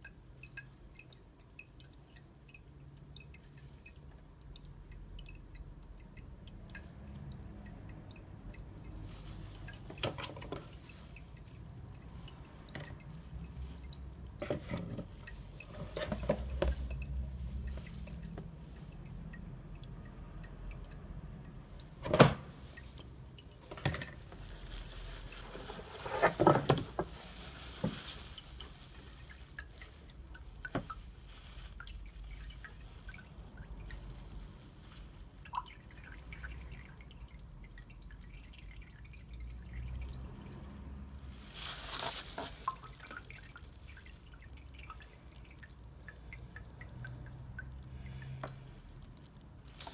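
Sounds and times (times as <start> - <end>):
liquid dripping: 0.0 - 49.9.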